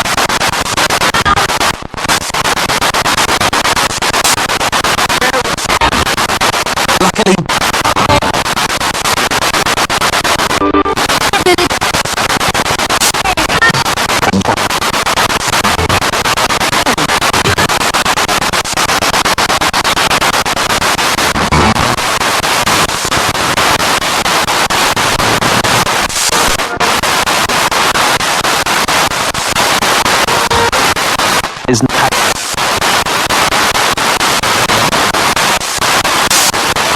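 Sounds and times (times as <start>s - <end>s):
radio static with fast clicks: 0.0s - 36.9s.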